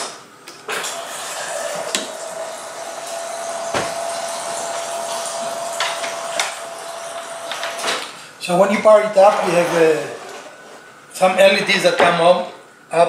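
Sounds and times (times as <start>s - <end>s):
machine whirring with high whine: 0.0s - 11.7s.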